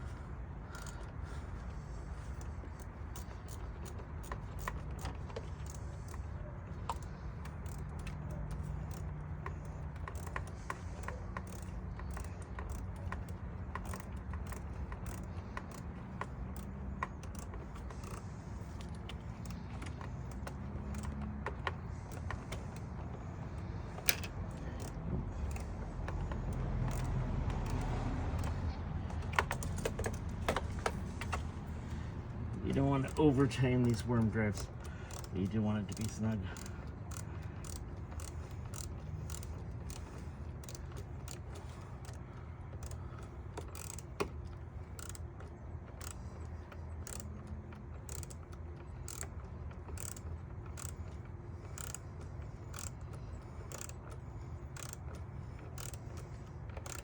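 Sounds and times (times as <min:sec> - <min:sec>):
hand tool tightening hose clamp: 0:00.0 - 0:57.0.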